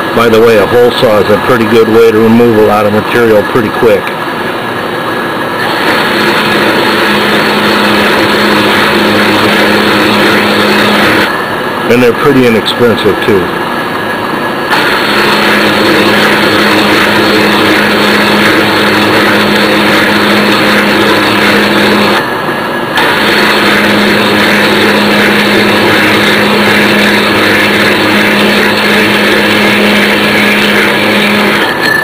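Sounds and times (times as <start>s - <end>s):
milling machine cutting metal: 0.0s - 4.7s, 5.3s - 32.0s.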